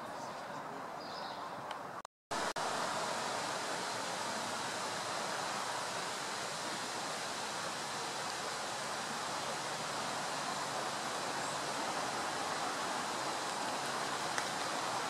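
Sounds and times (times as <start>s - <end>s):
steady rushing noise: 2.3s - 15.0s.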